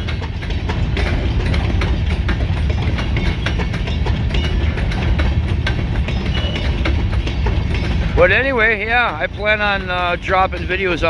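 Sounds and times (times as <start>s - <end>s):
train cars clicking and clanking: 0.0s - 11.0s
train wheels rumbling on rail: 0.0s - 11.0s.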